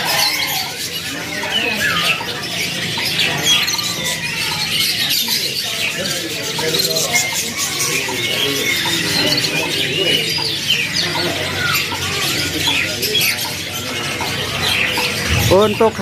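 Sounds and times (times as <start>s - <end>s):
canaries twittering and chirping: 0.0s - 16.0s
indistinct voices: 0.0s - 16.0s.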